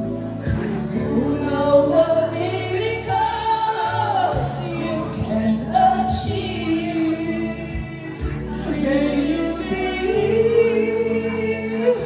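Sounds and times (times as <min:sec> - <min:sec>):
backing track: 0:00.0 - 0:12.0
woman singing a slow ballad: 0:00.4 - 0:12.0.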